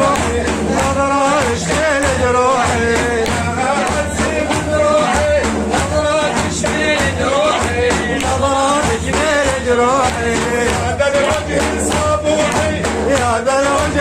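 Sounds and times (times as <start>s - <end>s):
hand drum strokes: 0.0s - 14.0s.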